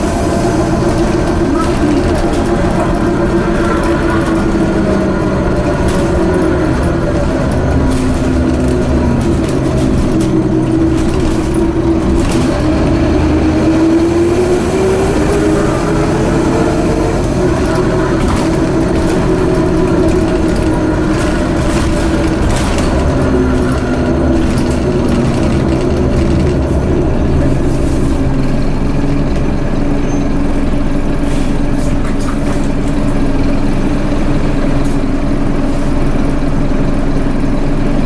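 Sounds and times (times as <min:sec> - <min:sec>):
bus engine rumble: 0:00.0 - 0:38.0
road noise: 0:00.0 - 0:38.0.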